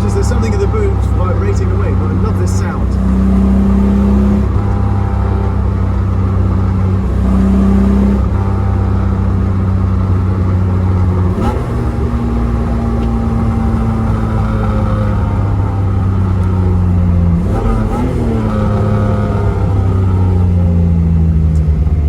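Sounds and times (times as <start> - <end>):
car exhaust note: 0.0 - 22.0.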